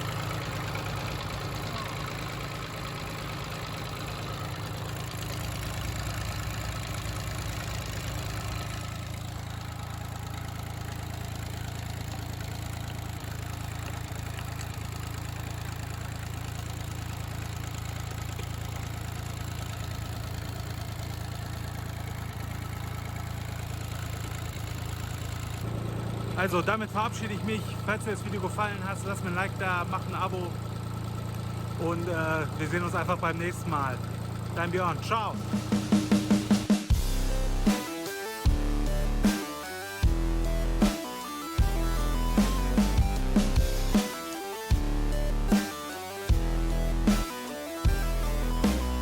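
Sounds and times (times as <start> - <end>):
tractor diesel engine idling: 0.0 - 49.0.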